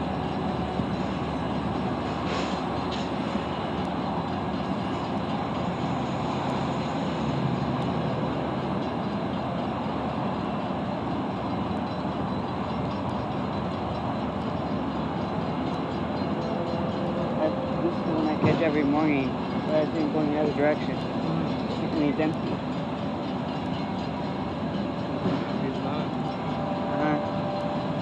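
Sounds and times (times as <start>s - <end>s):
freight train wheels rumbling on rails: 0.0s - 28.0s.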